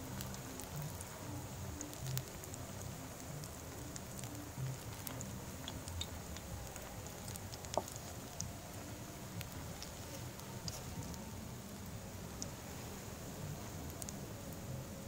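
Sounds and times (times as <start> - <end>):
deep-frying sizzle with pops: 0.0 - 15.0.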